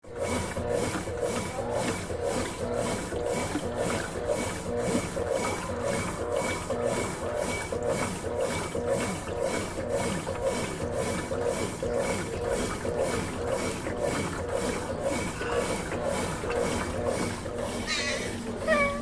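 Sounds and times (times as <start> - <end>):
washing machine motor hum: 0.0 - 19.0
washing machine swishing water: 0.0 - 19.0.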